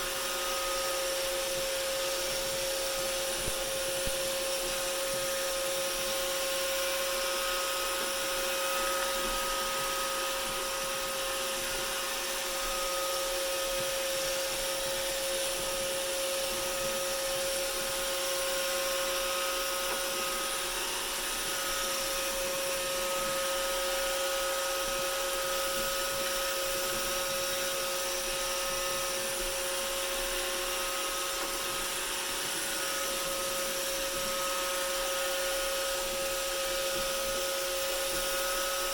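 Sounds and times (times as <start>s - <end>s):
robot vacuum running: 0.0s - 38.9s.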